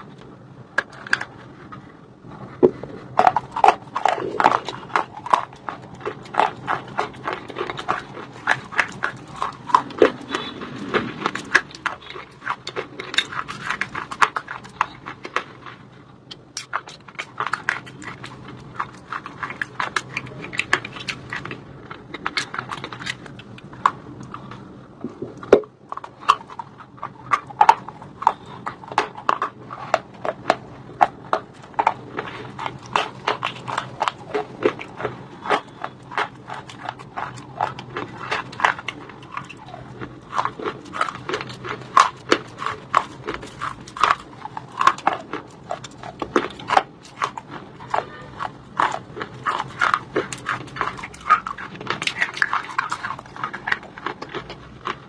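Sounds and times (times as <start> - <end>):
crunching and chewing stone: 0.0 - 55.0.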